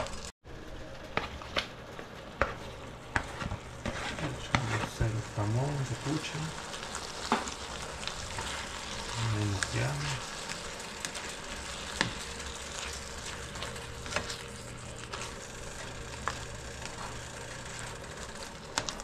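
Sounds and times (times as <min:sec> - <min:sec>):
ham sizzling in a pot: 0:00.0 - 0:19.0.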